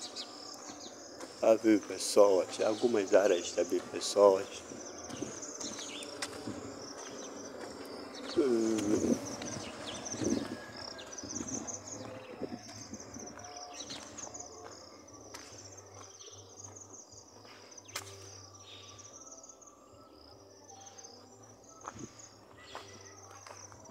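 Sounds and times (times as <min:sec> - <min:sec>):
insects trilling: 0:00.0 - 0:23.9.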